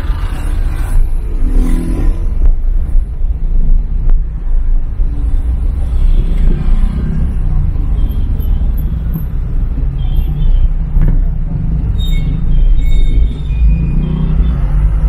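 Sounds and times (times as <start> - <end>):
vehicle driving rumble: 0.0 - 15.0.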